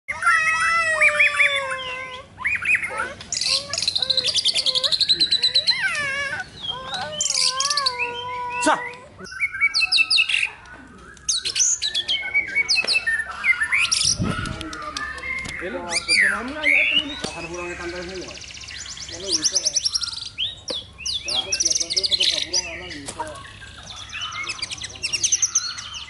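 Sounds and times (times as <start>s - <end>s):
songbird singing whistles and trills: 0.2s - 26.0s.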